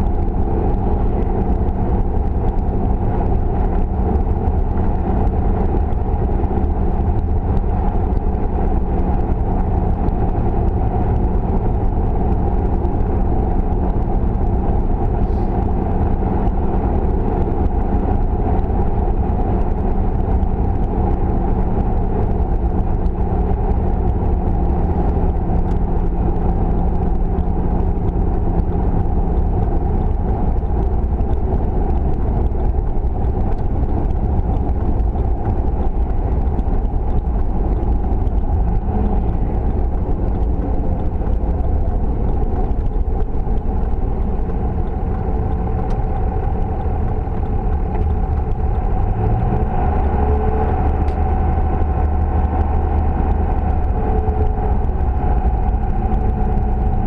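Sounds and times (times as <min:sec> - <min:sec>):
car engine and tyre rumble: 0:00.0 - 0:57.0
constant low hum: 0:00.0 - 0:57.0.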